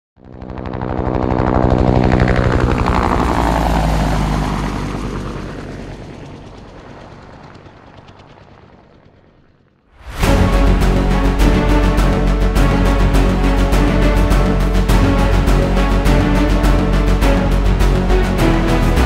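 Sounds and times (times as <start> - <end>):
helicopter rotor chopping: 0.2 - 19.0.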